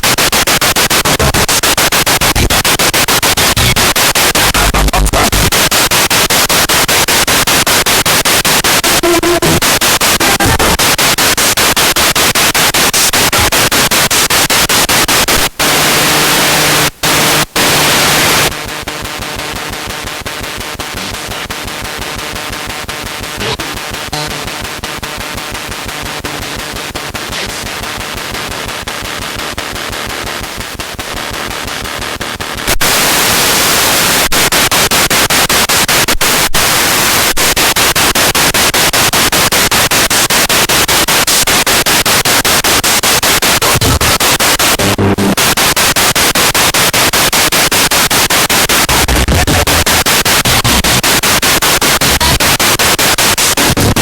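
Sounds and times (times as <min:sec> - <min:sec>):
pulsing radio static: 0:00.0 - 0:22.6, 0:32.6 - 0:54.0.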